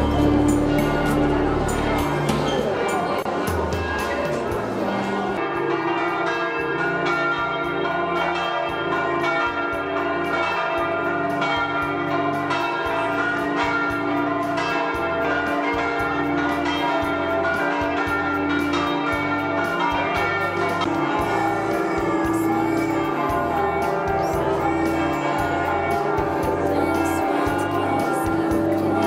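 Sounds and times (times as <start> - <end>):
church bells ringing: 0.0 - 29.0.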